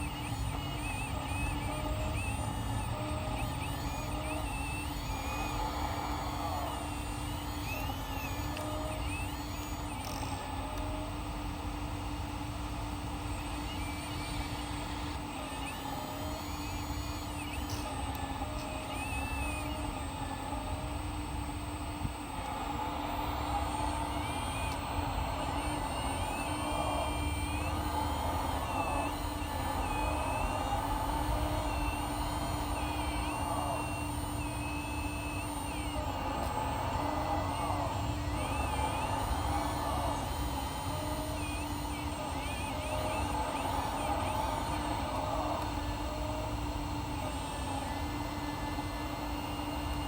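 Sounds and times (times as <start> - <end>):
electric pump humming: 0.0 - 50.0
high wavering whines: 0.0 - 50.0.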